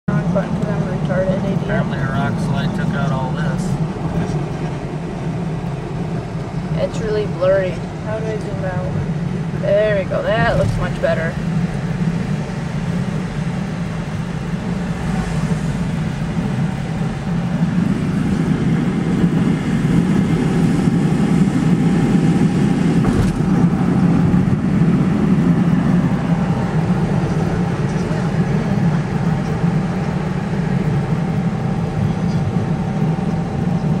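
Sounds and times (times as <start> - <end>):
car road noise rumble: 0.1 - 34.0.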